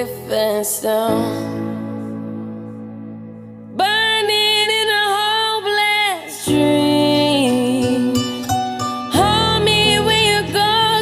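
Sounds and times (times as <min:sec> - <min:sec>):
pop song: 0:00.0 - 0:11.0.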